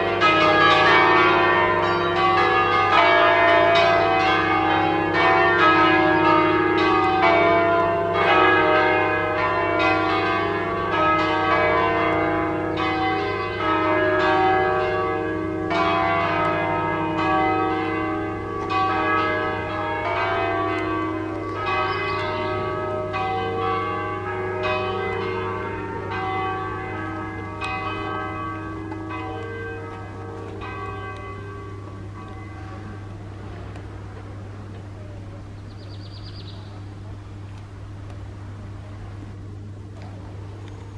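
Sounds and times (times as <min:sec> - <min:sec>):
church bells ringing: 0:00.0 - 0:40.6.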